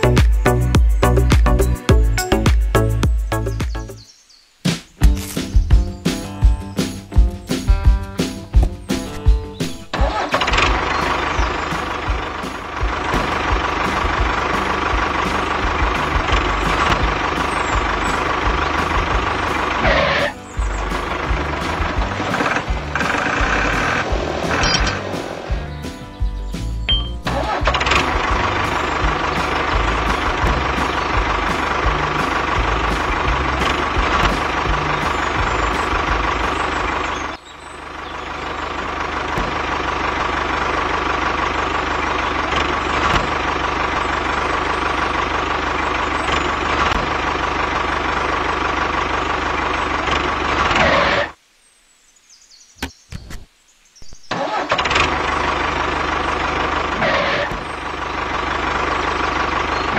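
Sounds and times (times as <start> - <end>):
tractor engine running: 0.0 - 4.0, 5.0 - 51.4, 54.2 - 59.9.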